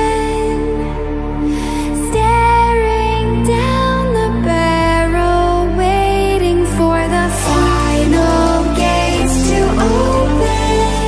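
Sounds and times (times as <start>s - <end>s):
melody over sustained bass: 0.0s - 11.0s.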